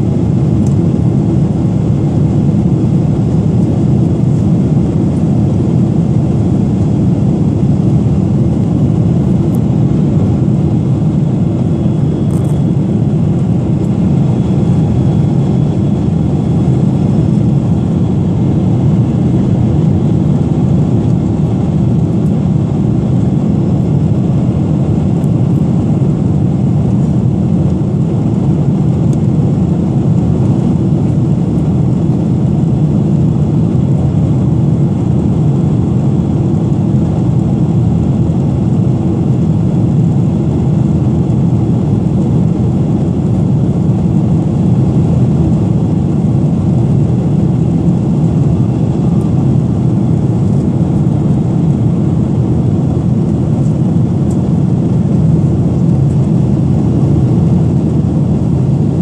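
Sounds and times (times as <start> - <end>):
jet engine rumble in cabin: 0.0 - 59.0.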